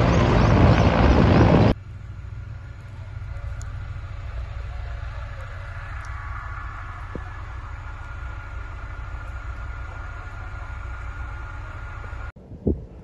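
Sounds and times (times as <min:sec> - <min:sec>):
faint hum: 0:00.0 - 0:13.0
low engine-like rumble: 0:00.0 - 0:13.0.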